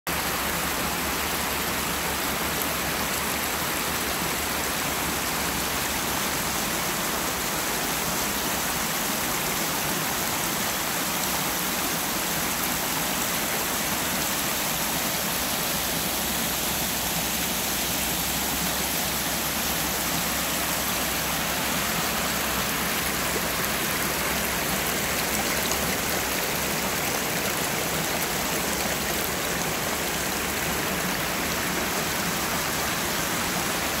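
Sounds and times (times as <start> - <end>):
creek water rushing over rocks: 0.1 - 34.0.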